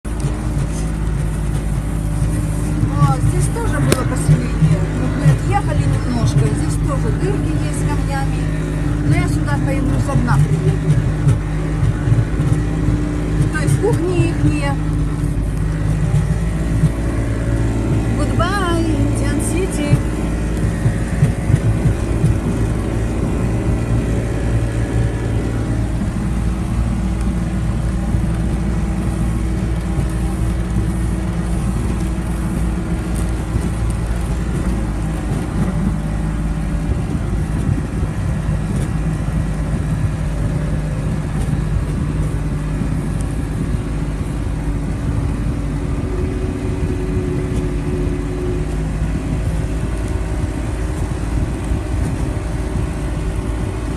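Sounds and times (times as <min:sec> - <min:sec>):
vehicle engine humming: 0:00.0 - 0:53.9.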